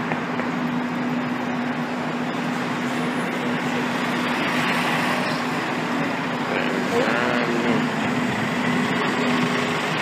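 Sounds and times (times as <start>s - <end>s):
fire engine diesel engine drone: 0.0s - 10.0s.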